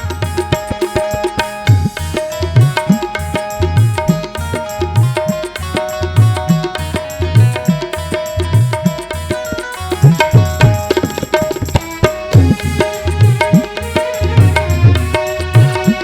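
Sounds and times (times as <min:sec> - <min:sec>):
sustained melodic accompaniment: 0:00.0 - 0:16.0
tabla playing fast rhythm: 0:00.0 - 0:16.0.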